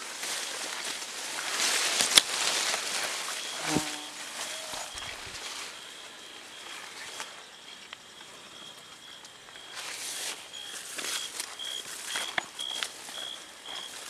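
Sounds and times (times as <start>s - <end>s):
leaves and branches rustling: 0.0s - 14.0s
insect chirping: 2.5s - 14.0s.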